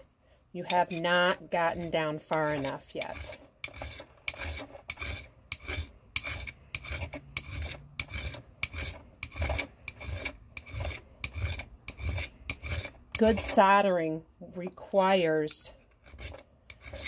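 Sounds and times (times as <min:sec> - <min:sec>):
metal file rasping: 0:00.7 - 0:13.7, 0:15.8 - 0:17.0.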